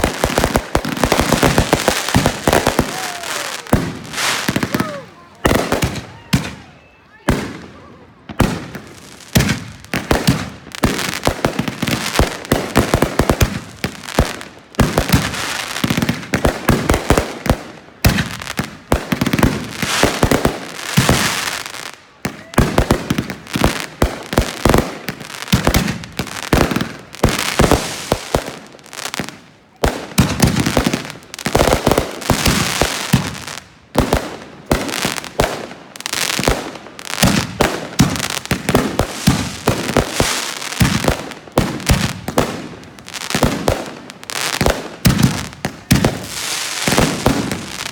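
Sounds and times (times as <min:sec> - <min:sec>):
fireworks banging: 0:00.0 - 0:21.6, 0:22.2 - 0:47.9.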